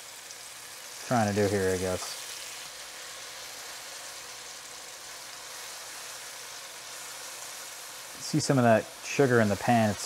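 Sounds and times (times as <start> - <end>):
figs sizzling in hot oil: 0.0 - 10.0.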